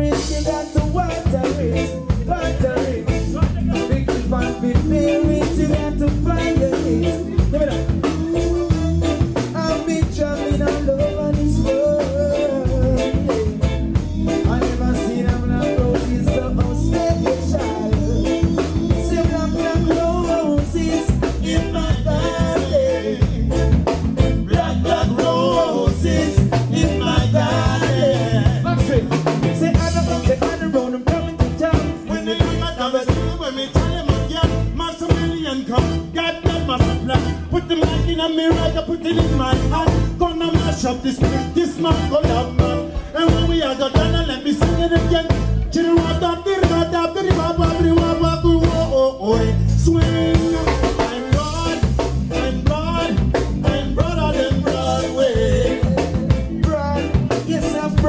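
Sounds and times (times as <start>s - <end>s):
person singing into microphone: 0.0s - 58.0s
reggae band playing: 0.0s - 58.0s.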